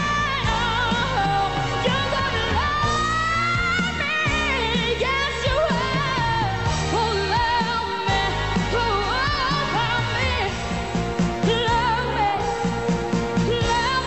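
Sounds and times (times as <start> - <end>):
instrumental backing: 0.0 - 14.0
person singing pop song: 0.0 - 14.0.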